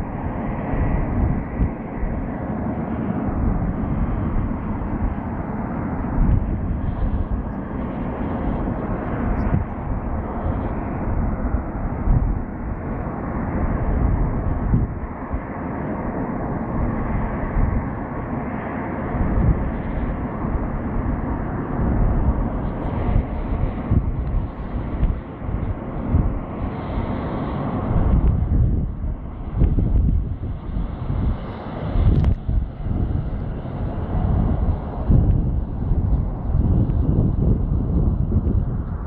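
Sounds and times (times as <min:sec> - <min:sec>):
jet airliner landing: 0:00.0 - 0:39.0.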